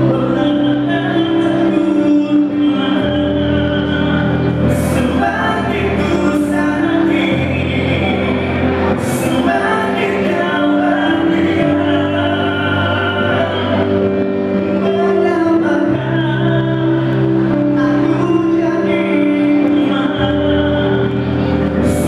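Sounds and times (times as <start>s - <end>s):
amplified backing music: 0.0s - 22.0s
man singing into a microphone: 0.0s - 22.0s.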